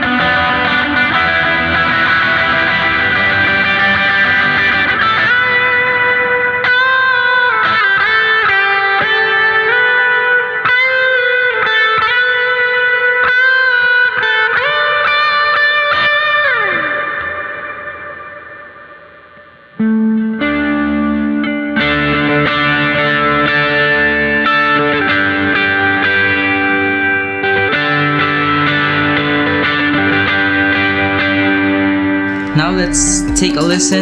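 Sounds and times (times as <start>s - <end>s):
overdriven electric guitar lead: 0.0s - 34.0s.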